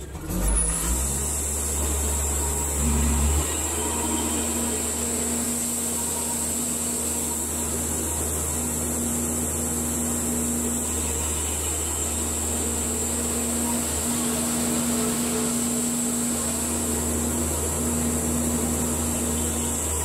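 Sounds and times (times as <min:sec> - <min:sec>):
bandsaw mill cutting log: 0:00.0 - 0:20.0.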